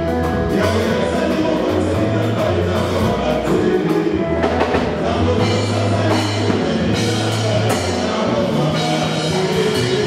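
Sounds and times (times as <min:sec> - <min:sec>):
bass guitar: 0:00.0 - 0:10.0
drum kit: 0:00.0 - 0:10.0
electric guitar: 0:00.0 - 0:10.0
gospel group singing in harmony: 0:00.0 - 0:10.0.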